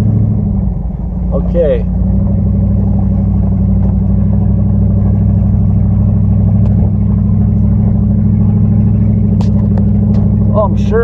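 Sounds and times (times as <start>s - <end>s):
truck engine under load: 0.0s - 11.0s.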